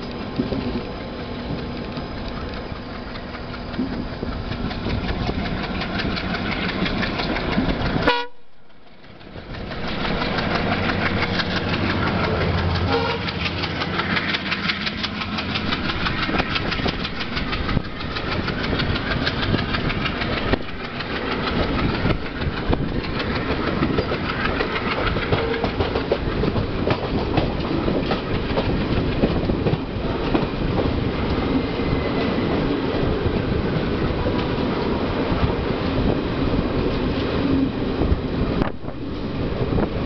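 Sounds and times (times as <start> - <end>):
train coaches rushing past: 0.0 - 40.0
wheels clattering over rail joints: 0.0 - 40.0.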